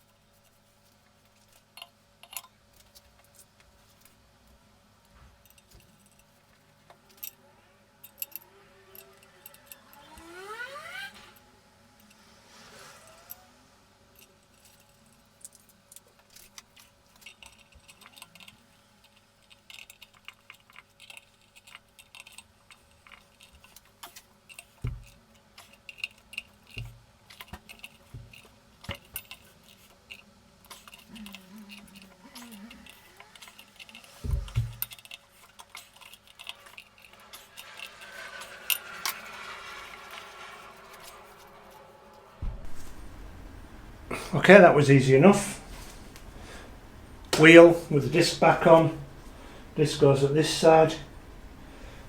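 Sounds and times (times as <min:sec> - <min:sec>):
metal tools clinking: 0:01.3 - 0:03.5, 0:08.0 - 0:11.4, 0:14.2 - 0:42.9, 0:44.1 - 0:52.0.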